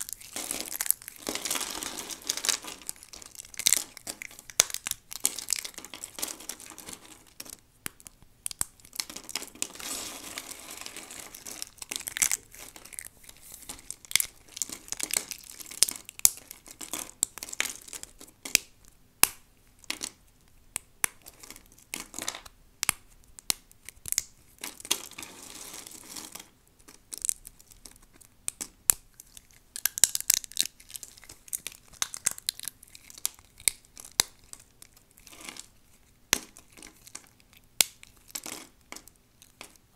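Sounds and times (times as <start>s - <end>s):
soap crackling and snapping: 0.0s - 39.9s.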